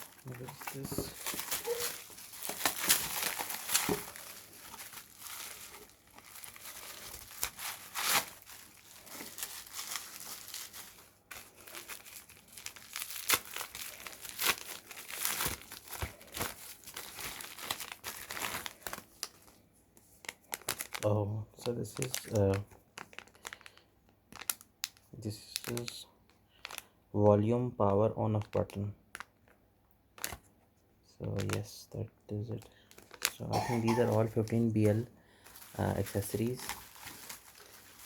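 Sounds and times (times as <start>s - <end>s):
plastic packaging crinkling: 0.0s - 19.6s, 20.2s - 26.9s, 30.2s - 30.4s, 31.3s - 31.8s, 32.6s - 38.0s.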